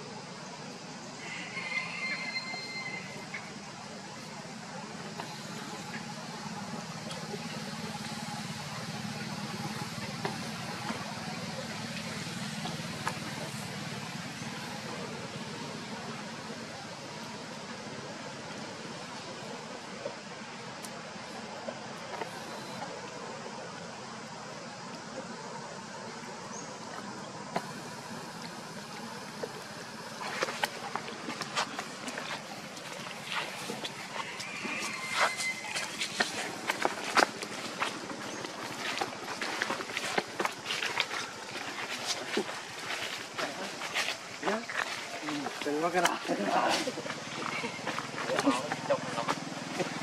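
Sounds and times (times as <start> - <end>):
low even hum: 0.0 - 50.0
outdoor background hiss: 0.0 - 50.0.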